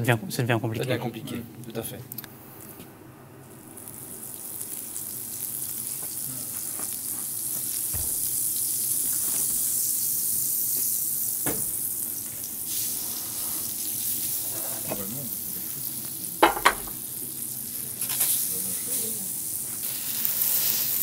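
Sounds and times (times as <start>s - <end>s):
food sizzling on griddle: 3.4s - 21.0s.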